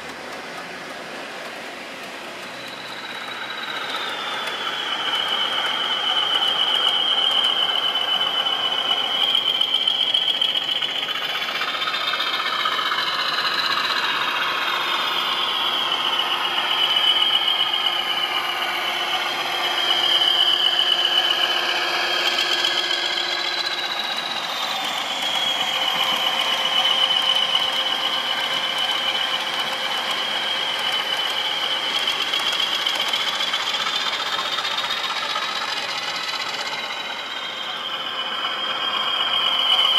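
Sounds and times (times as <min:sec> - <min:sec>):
model train motor whine: 0:00.1 - 0:39.9.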